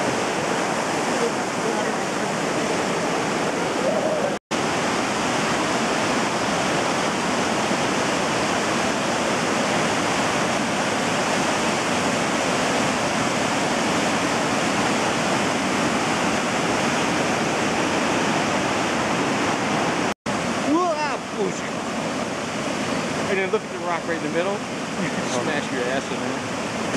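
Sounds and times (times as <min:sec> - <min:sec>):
river rushing over rocks: 0:00.0 - 0:26.9.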